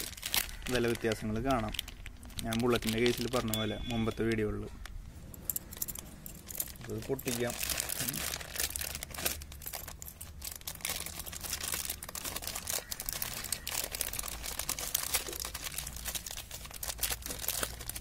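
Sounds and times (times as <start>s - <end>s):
plastic packet crinkling: 0.0s - 5.0s, 5.7s - 18.0s.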